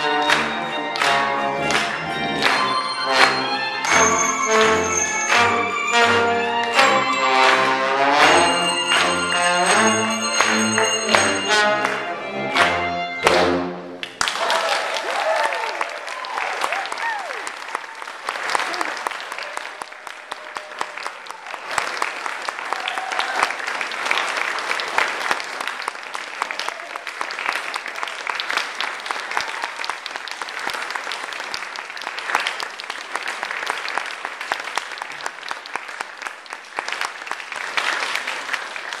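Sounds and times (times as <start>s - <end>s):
audience applauding: 0.0s - 39.0s.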